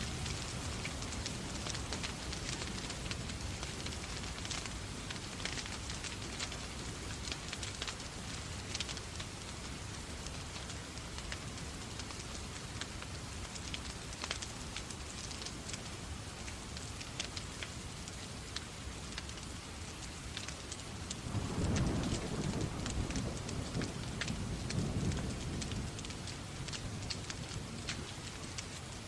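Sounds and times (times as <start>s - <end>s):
steady rain: 0.0s - 29.0s
wood fire crackling: 0.0s - 29.0s.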